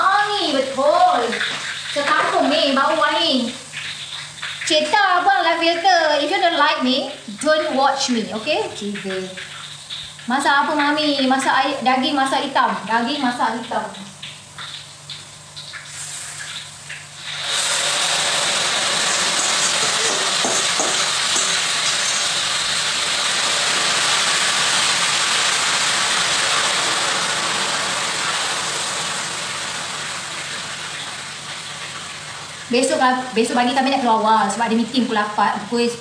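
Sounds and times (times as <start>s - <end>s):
beef sizzling in a hot wok: 0.0s - 36.0s.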